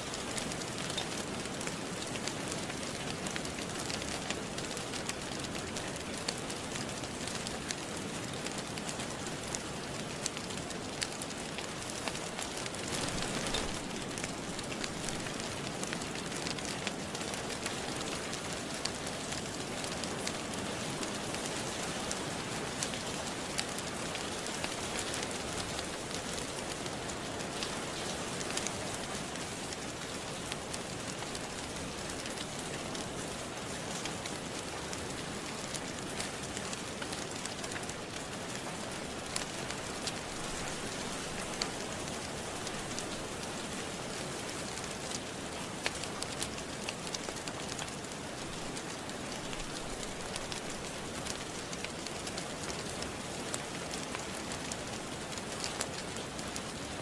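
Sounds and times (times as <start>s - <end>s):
steady rain falling: 0.0s - 57.0s
wood fire crackling: 0.0s - 57.0s.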